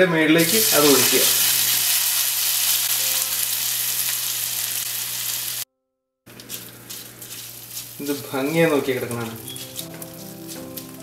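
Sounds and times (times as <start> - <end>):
hot oil sizzling: 0.4 - 5.6, 6.3 - 11.0.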